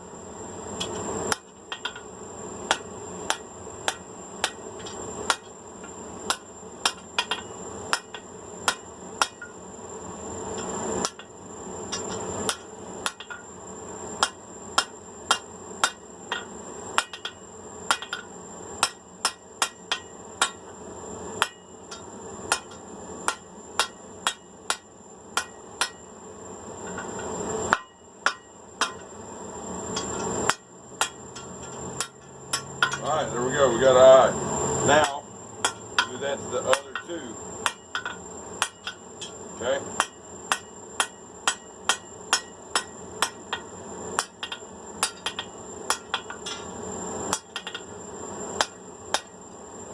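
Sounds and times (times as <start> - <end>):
steady high-pitched whine: 0.0 - 49.9
hammer striking hot steel on anvil: 0.8 - 9.6, 10.5 - 13.5, 14.2 - 20.8, 21.4 - 26.1, 26.8 - 29.2, 29.9 - 33.2, 34.9 - 48.0, 48.6 - 49.4.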